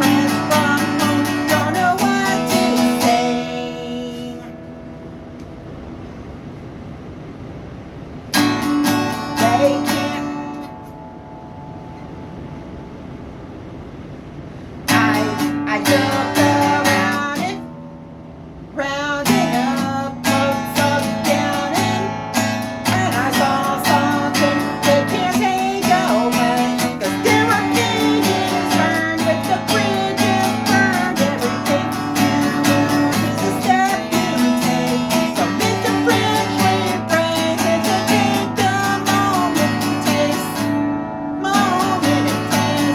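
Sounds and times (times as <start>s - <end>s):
acoustic guitar strumming: 0.0s - 6.0s, 8.3s - 13.4s, 14.8s - 42.9s.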